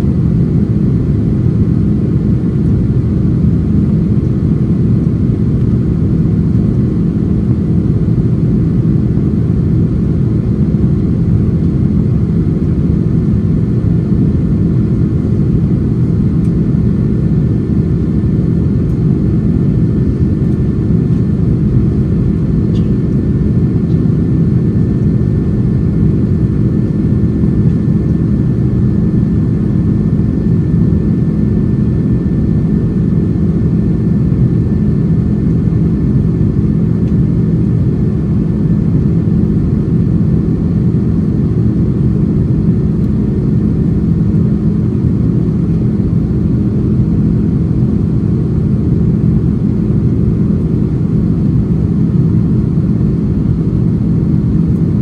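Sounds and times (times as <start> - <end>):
aircraft cabin low rumble: 0.0 - 55.0.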